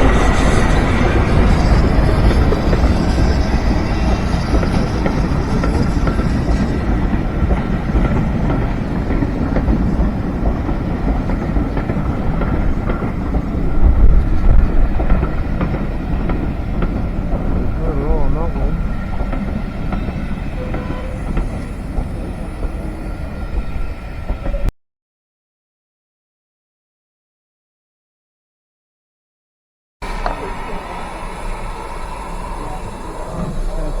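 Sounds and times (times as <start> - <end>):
train wheels rolling over rails: 0.0 - 24.7, 30.0 - 34.0.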